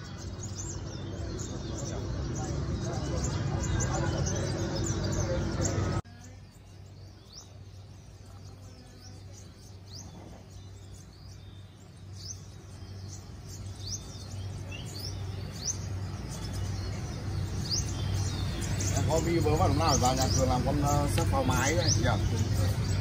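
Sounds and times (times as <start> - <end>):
steady low hum: 0.0 - 23.0
sunbirds chirping: 0.0 - 23.0.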